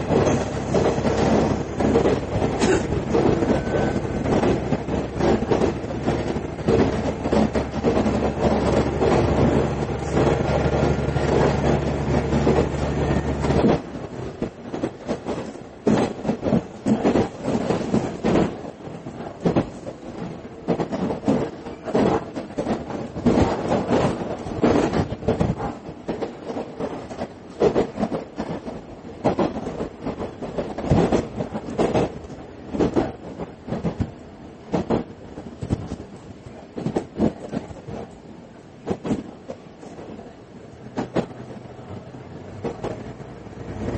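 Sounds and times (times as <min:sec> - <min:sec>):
railcar rumbling: 0:00.0 - 0:43.9
train wheels clattering on track: 0:00.0 - 0:43.9.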